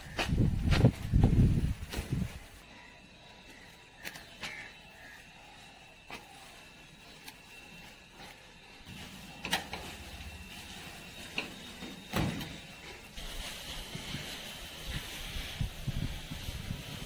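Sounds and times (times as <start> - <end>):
leaves rustling: 0.0 - 17.0.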